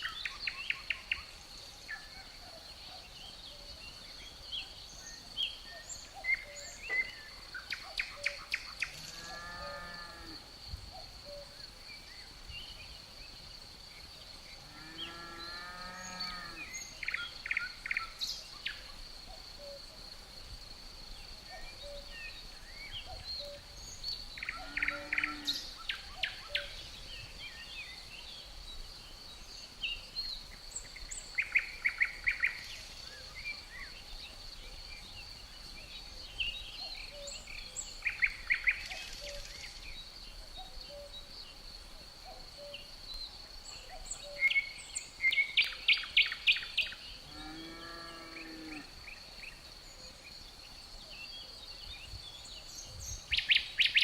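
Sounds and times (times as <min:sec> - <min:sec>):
crickets droning: 0:00.0 - 0:54.0.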